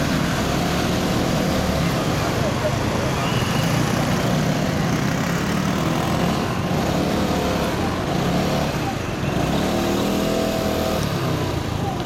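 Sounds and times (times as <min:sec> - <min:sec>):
surrounding car traffic: 0:00.0 - 0:12.0.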